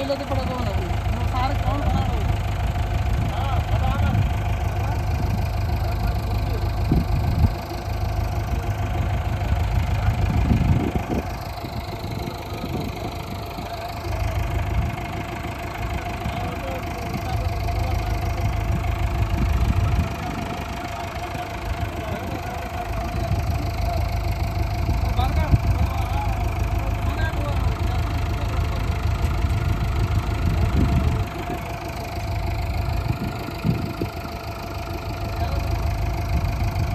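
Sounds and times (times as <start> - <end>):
heavy machinery diesel engine running: 0.0 - 36.9.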